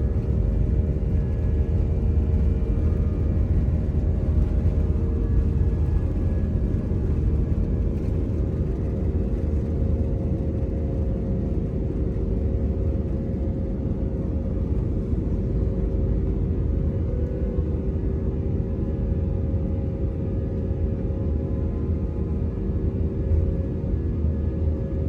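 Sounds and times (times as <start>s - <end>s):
droning hum: 0.0s - 25.0s.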